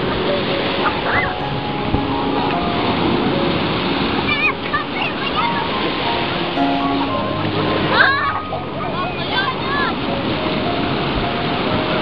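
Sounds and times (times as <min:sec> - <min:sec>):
surf rushing: 0:00.0 - 0:12.0.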